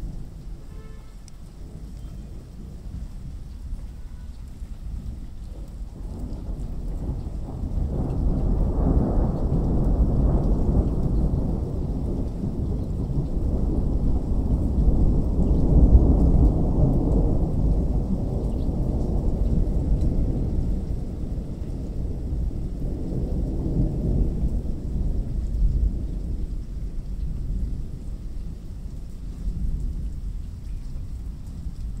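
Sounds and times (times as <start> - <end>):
rolling thunder: 0.0 - 32.0.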